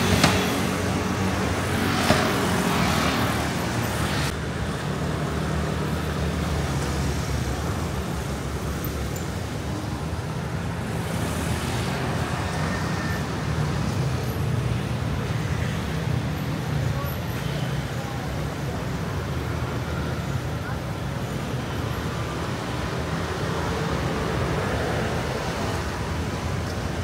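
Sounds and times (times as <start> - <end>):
traffic engine hum: 0.0 - 27.0.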